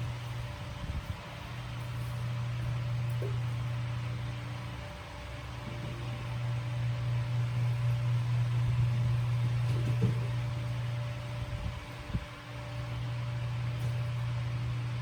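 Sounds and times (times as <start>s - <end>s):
electric fan humming: 0.0s - 15.0s.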